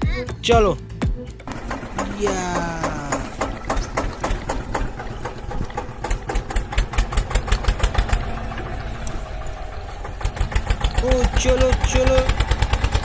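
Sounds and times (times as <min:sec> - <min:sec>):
small tractor engine chugging: 0:01.4 - 0:13.0.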